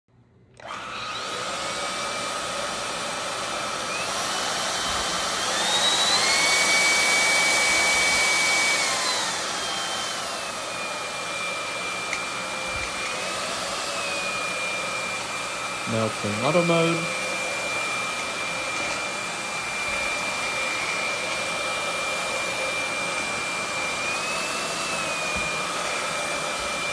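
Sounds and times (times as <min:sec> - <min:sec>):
stick vacuum motor whining: 0:00.5 - 0:26.9.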